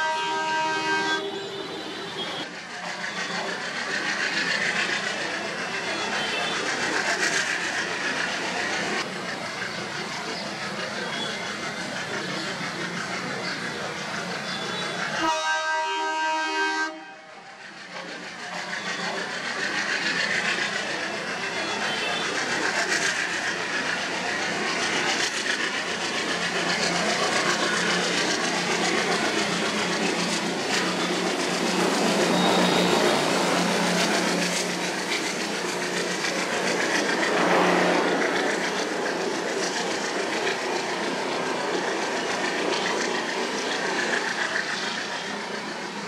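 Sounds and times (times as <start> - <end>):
diesel locomotive engine hum: 0.0 - 46.0
wheel-on-rail noise: 1.0 - 15.2, 17.6 - 46.0.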